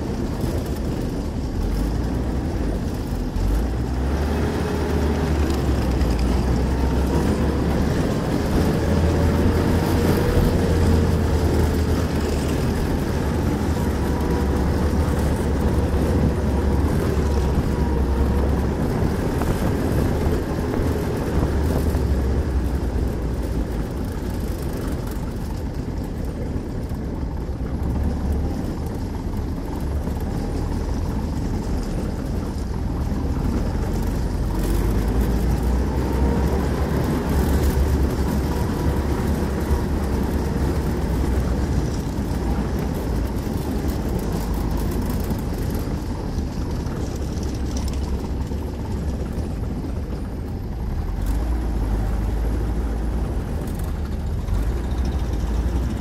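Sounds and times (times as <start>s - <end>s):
half-track engine rumbling: 0.0s - 56.0s
running gear whine: 0.0s - 56.0s.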